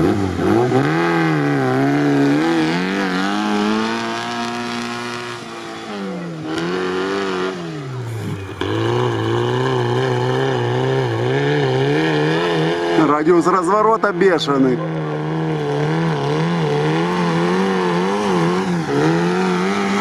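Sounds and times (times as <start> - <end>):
off-road car engine revving: 0.0 - 20.0.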